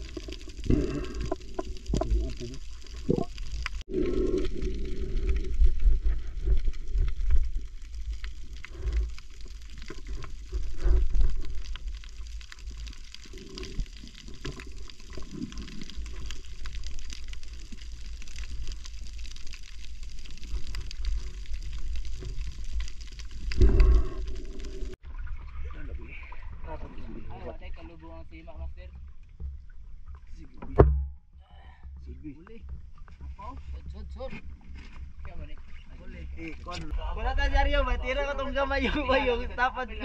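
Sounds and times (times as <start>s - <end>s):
underwater sloshing and gurgling: 0.0s - 31.2s, 31.8s - 40.0s.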